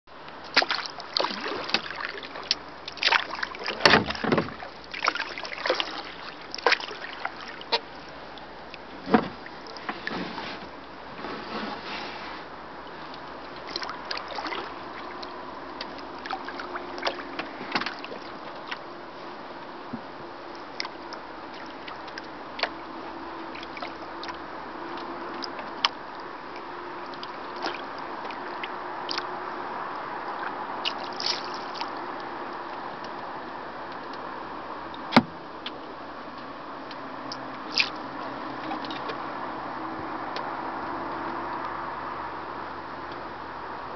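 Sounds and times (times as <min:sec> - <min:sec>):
paddle strokes splashing: 0:00.1 - 0:36.0, 0:36.9 - 0:43.4
water lapping along hull: 0:00.1 - 0:43.9.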